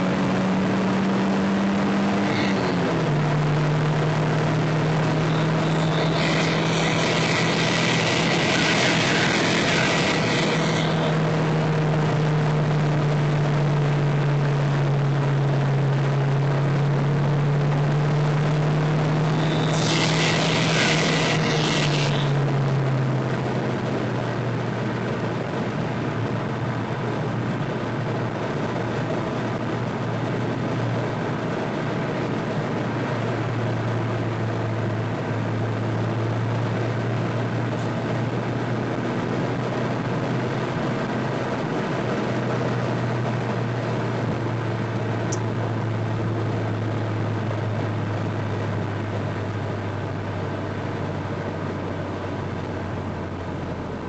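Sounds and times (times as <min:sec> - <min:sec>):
car engine drone: 0:00.0 - 0:54.0.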